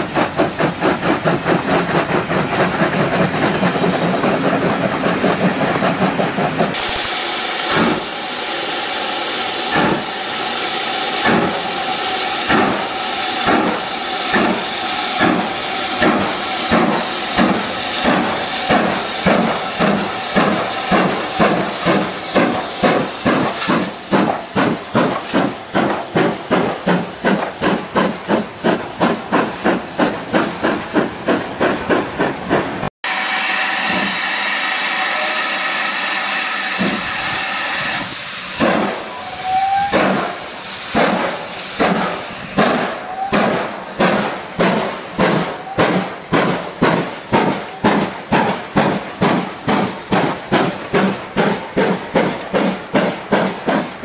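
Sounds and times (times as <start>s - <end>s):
steam locomotive chuffing: 0.0s - 54.0s.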